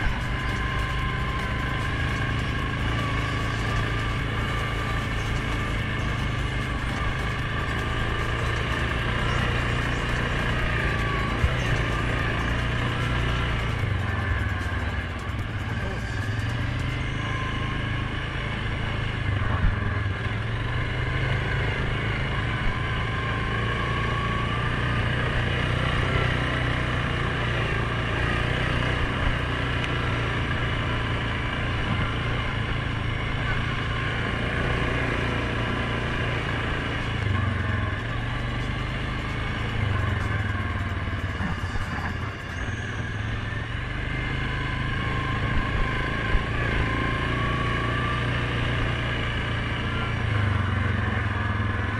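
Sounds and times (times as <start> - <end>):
quad bike engine running: 0.0 - 51.9.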